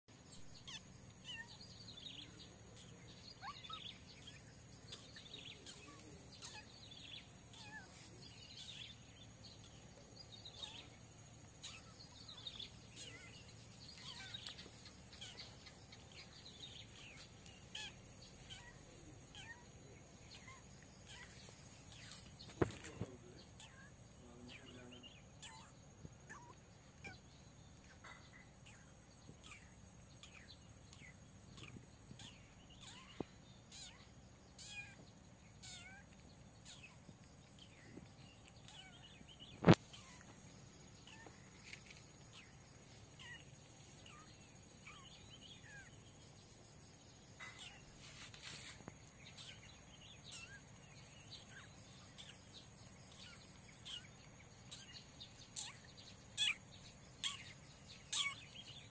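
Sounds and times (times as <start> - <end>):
insects droning: 0.1 - 58.9
small birds chirping: 0.1 - 58.9.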